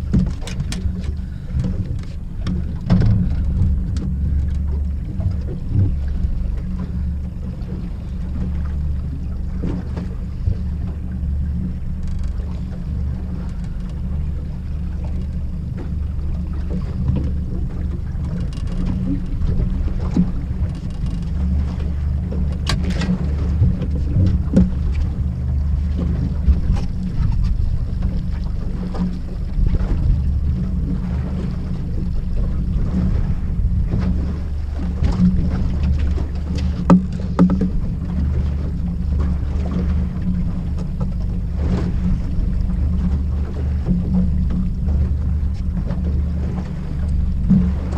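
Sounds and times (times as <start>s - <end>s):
knocks from boat: 0.0s - 47.9s
outboard motor humming: 0.0s - 47.9s
water washing against hull: 0.0s - 47.9s.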